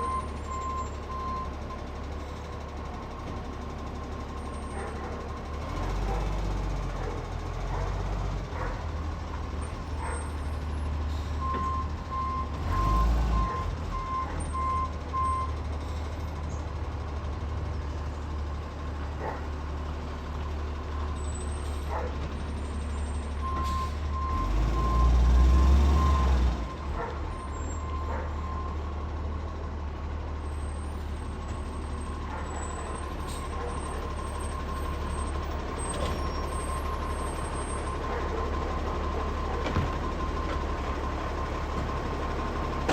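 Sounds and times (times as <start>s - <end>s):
garbage truck diesel engine revving: 3.1s - 42.9s.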